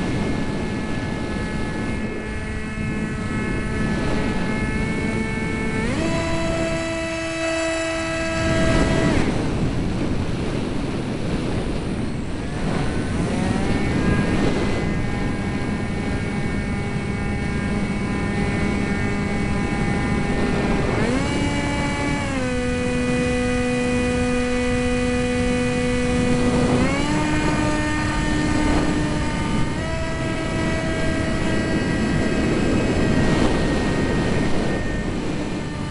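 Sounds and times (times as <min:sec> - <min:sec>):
jet engines whining: 0:00.0 - 0:35.9.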